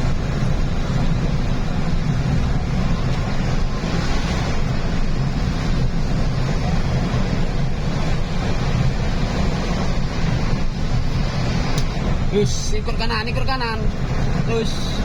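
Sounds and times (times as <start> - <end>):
low engine drone: 0.0 - 15.0
road and wind noise: 0.0 - 15.0.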